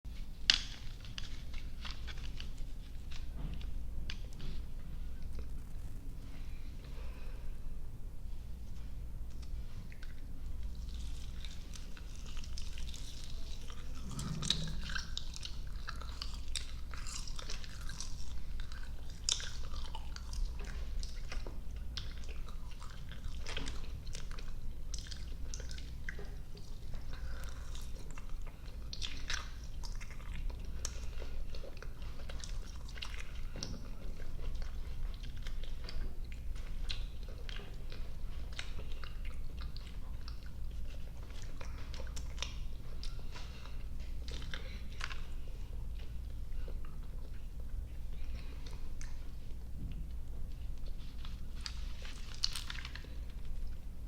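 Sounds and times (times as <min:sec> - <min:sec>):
steady low hum: 0:00.1 - 0:54.0.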